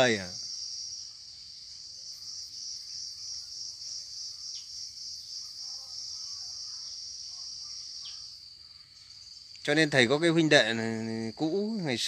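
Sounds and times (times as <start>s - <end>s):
insects buzzing chorus: 0.0s - 12.0s.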